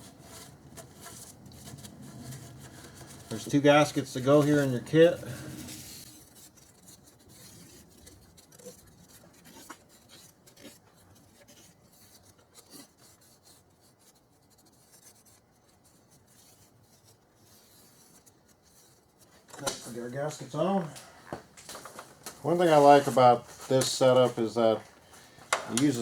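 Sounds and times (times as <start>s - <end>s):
faint rubbing and scraping: 0.0s - 26.0s.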